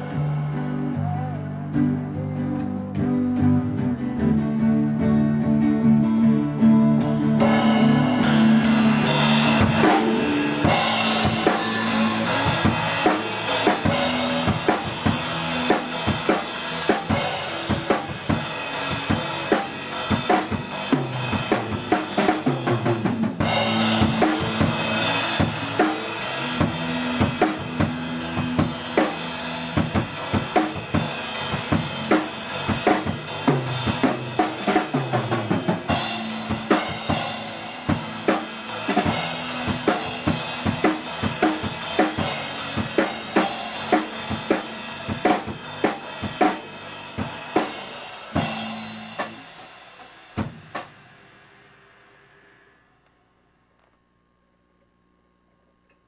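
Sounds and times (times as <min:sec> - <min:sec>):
blues rock band playing: 0:00.0 - 0:49.7
drum kit: 0:00.0 - 0:52.8.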